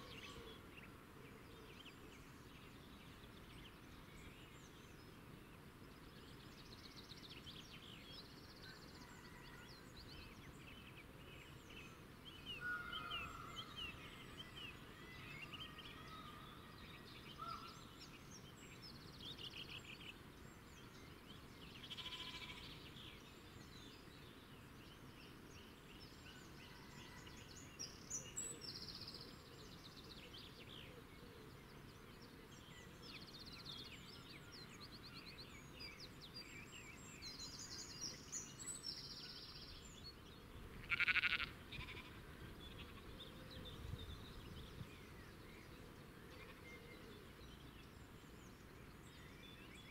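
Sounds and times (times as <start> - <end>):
low outdoor hiss: 0.0 - 49.9
small birds chirping and trilling: 0.0 - 49.9.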